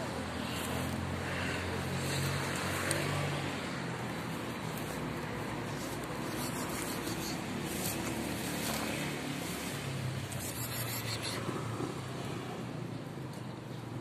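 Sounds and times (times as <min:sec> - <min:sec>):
cars passing: 0:00.0 - 0:14.0
vehicle engine humming: 0:00.0 - 0:14.0.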